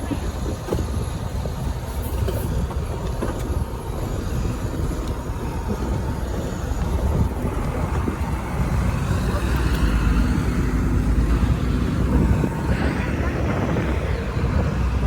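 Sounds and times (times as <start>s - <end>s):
vehicle rumbling: 0.0s - 15.0s.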